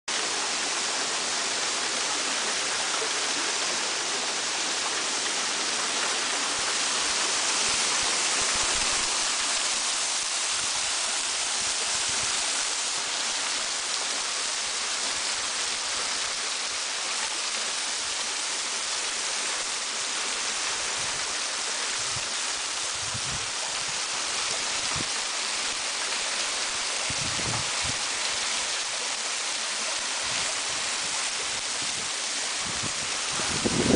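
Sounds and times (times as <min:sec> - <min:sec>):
waterfall hiss: 0:00.1 - 0:33.9.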